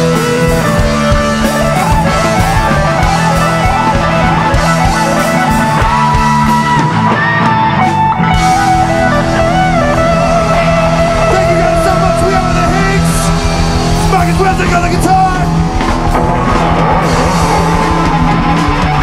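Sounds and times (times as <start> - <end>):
electric guitar lead: 0.0 - 19.0
steady drums: 0.0 - 19.0.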